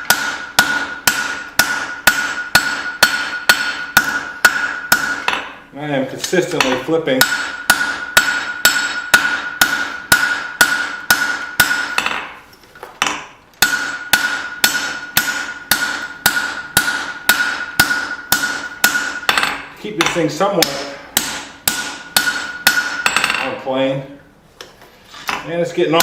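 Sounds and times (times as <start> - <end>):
hammer striking hot steel: 0.0 - 5.6, 6.6 - 12.4, 13.0 - 23.5.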